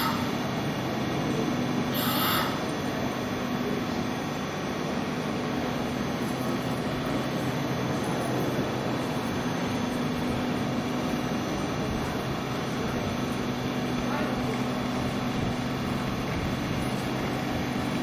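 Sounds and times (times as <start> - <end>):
high-speed train rushing hum: 0.0 - 18.0.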